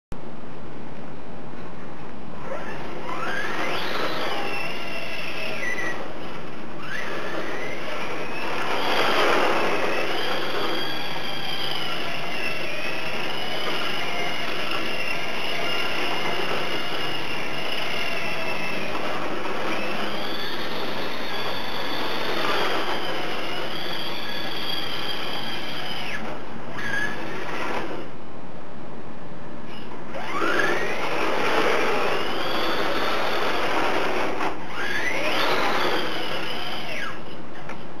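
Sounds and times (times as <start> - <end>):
electric toy car motor whining: 2.4 - 28.1, 29.7 - 37.4.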